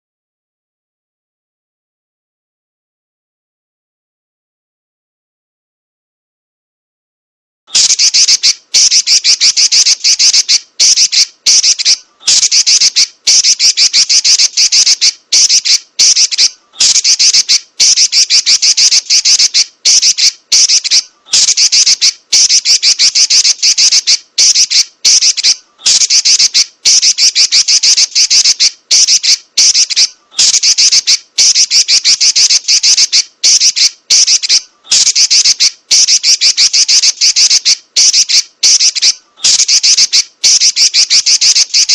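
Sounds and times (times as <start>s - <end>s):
bird chattering trills: 7.7s - 41.9s.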